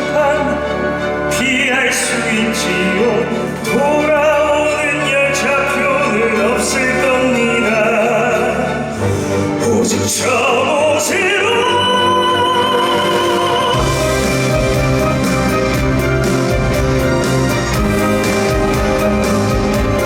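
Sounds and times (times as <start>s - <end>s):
orchestral accompaniment: 0.0s - 20.0s
voices singing with vibrato: 0.0s - 20.0s.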